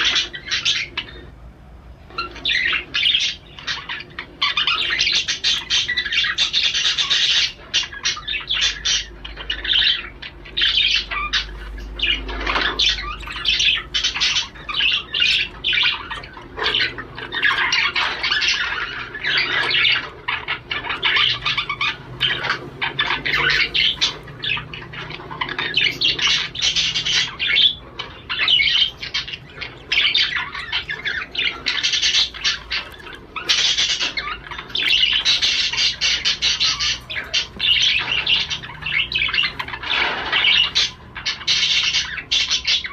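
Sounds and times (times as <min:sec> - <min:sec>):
budgerigar warbling and chirping: 0:00.0 - 0:01.3, 0:02.1 - 0:42.9.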